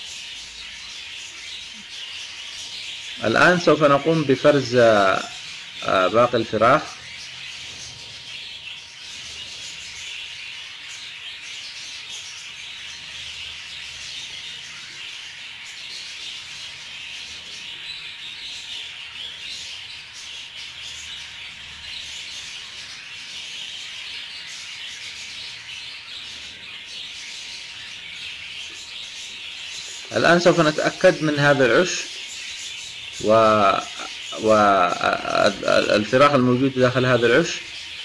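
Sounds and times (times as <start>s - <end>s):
budgerigars chirping: 0.0s - 38.0s.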